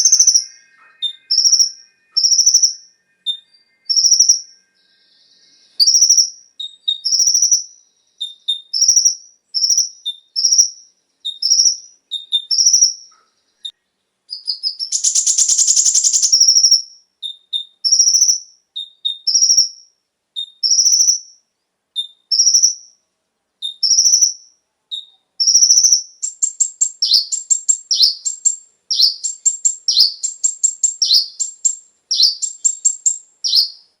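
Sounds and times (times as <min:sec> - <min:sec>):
buzzy bird trill: 0:00.0 - 0:21.4, 0:22.0 - 0:23.0, 0:23.6 - 0:34.0
sunbird chirping: 0:00.0 - 0:23.0, 0:23.6 - 0:34.0.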